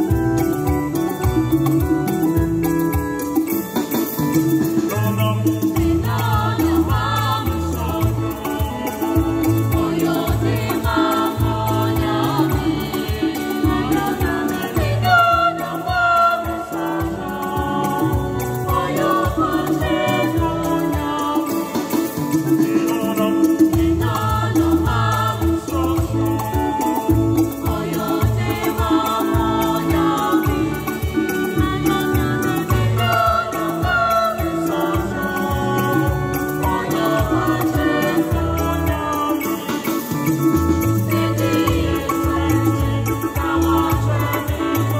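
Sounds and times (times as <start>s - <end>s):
keyboard accompaniment: 0.0s - 44.9s
light percussion beat: 0.0s - 44.9s
choir singing in harmony: 5.6s - 44.9s.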